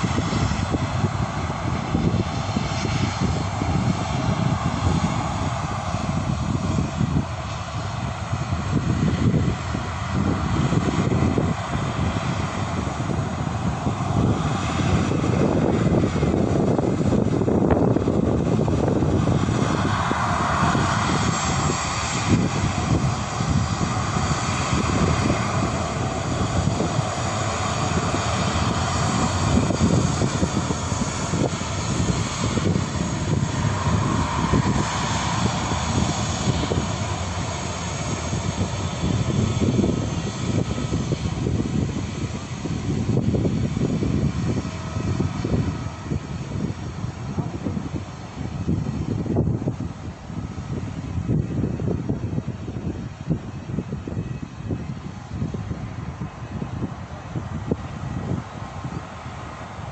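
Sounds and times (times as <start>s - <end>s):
high-pitched engine whine: 0.0s - 59.9s
jet engines rumbling: 0.0s - 59.9s.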